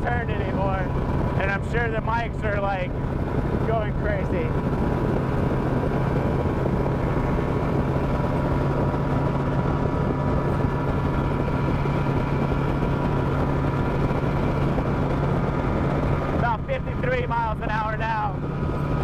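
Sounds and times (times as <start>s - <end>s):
outboard motor running: 0.0s - 19.0s
rushing wind and water: 0.0s - 19.0s.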